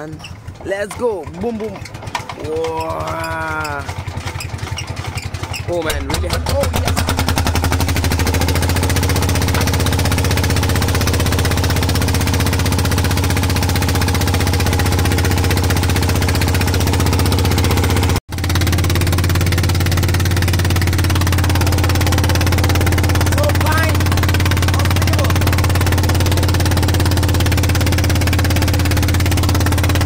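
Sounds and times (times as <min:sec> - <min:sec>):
boat engine chugging: 0:00.0 - 0:30.0.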